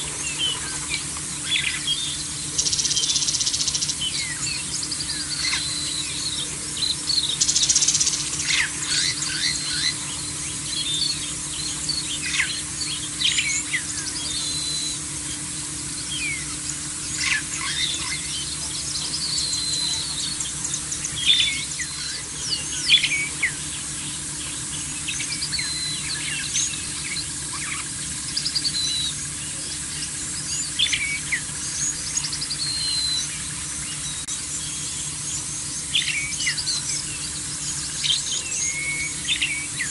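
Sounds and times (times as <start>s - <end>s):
birds chirping: 0.0s - 39.9s
steady hiss: 0.0s - 39.9s.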